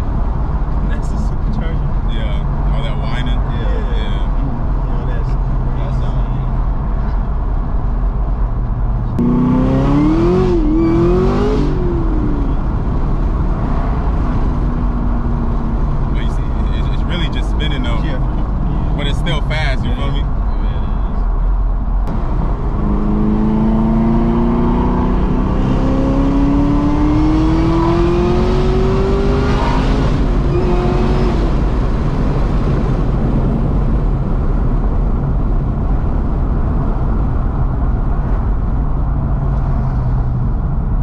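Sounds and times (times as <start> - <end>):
car engine accelerating: 0.0 - 41.0
road noise: 0.0 - 41.0.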